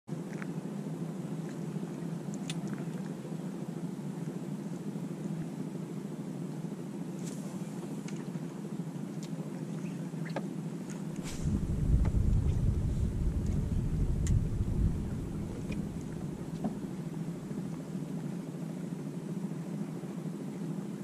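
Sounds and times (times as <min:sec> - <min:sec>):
boat engine humming: 0:00.7 - 0:20.0.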